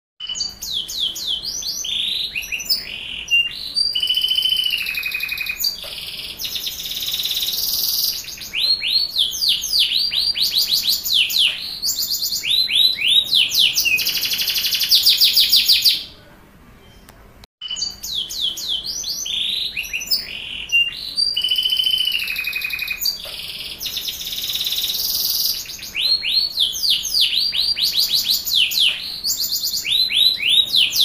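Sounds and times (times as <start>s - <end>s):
canary singing: 0.2s - 16.2s, 16.8s - 31.0s.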